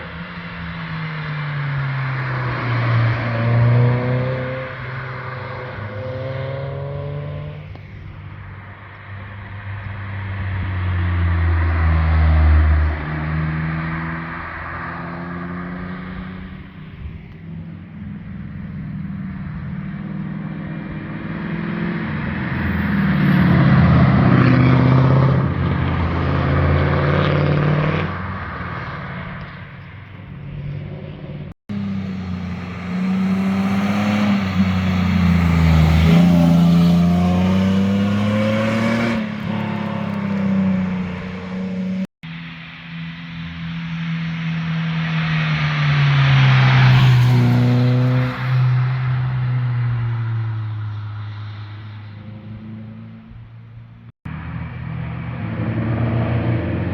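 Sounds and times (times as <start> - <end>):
cars driving past: 0.0 - 56.9.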